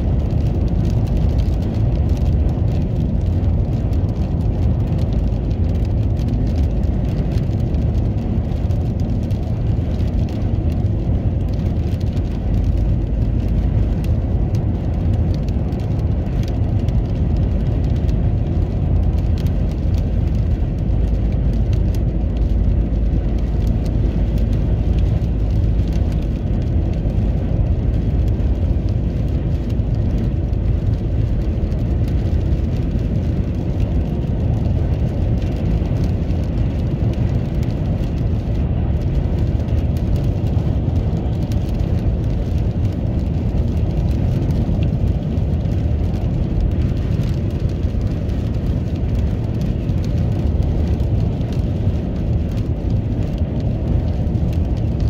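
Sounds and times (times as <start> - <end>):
raindrops ticking: 0.0 - 55.0
road and engine rumble: 0.0 - 55.0.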